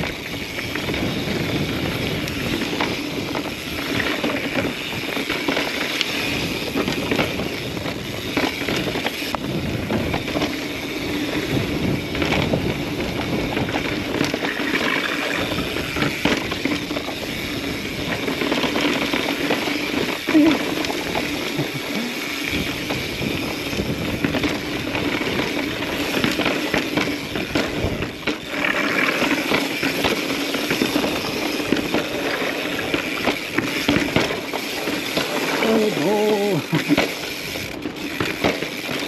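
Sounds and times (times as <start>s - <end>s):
bike clicking and rattling: 0.0s - 39.0s
bike tyres rolling over rocks: 0.0s - 39.0s.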